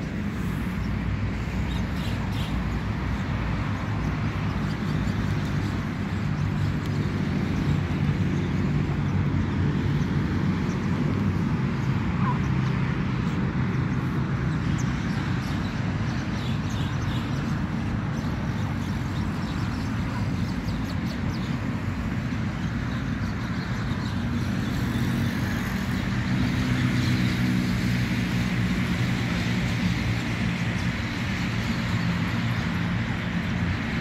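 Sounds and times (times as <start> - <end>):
low rumble of vehicles: 0.0 - 34.0.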